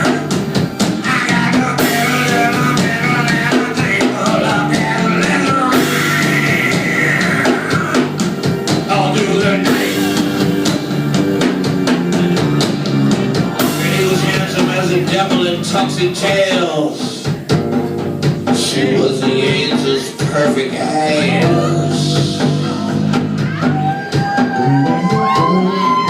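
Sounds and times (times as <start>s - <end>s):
lead melody line: 0.0s - 16.6s, 17.4s - 23.8s
drum kit beat: 0.0s - 26.0s
guitar and bass: 0.0s - 26.0s.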